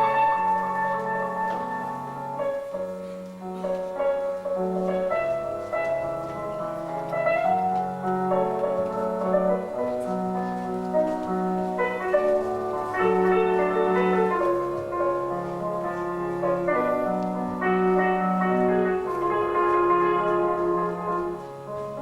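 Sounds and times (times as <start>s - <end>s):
instrumental ballet music: 0.0s - 22.0s.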